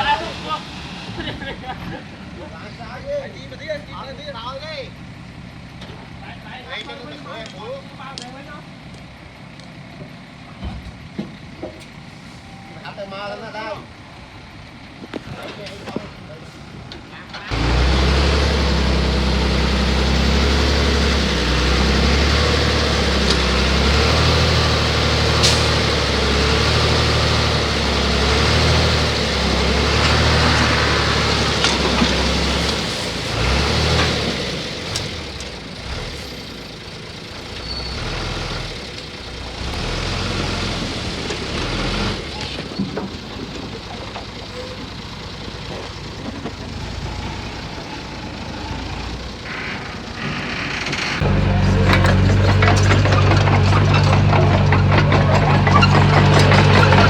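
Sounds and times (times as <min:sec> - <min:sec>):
heavy diesel machinery engine: 0:00.0 - 0:57.0.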